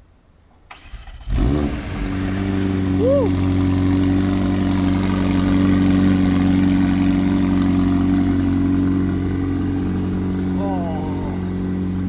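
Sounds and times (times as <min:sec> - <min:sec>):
car engine idling: 0:00.7 - 0:12.0.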